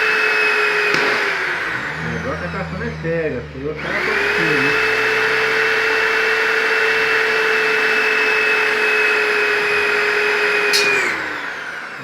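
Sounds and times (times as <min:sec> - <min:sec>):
electric drill boring into steel: 0:00.0 - 0:12.0.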